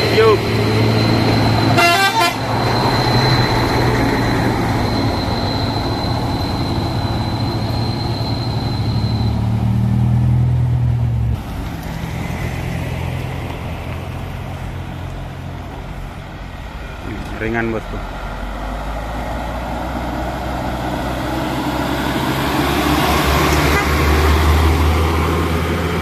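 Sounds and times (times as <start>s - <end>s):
truck diesel engine passing: 0.0s - 26.0s.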